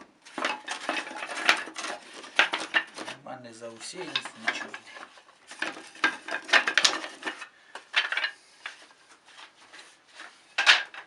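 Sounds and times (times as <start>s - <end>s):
wooden bars clattering together: 0.0s - 3.2s, 3.8s - 11.0s.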